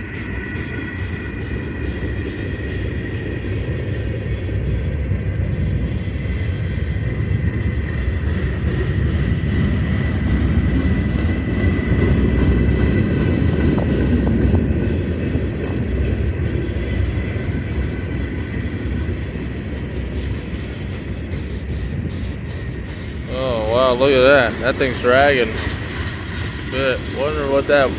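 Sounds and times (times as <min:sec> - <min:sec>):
freight train wheels rumbling: 0:00.0 - 0:27.9.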